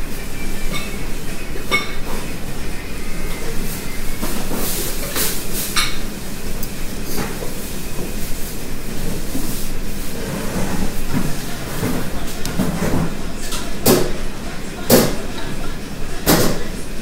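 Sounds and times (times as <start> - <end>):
restaurant background din: 0.0 - 17.0.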